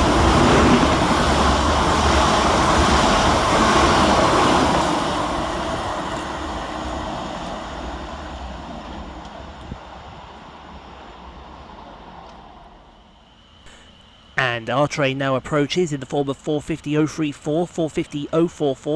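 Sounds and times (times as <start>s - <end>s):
train passing with rail noise: 0.0s - 18.9s.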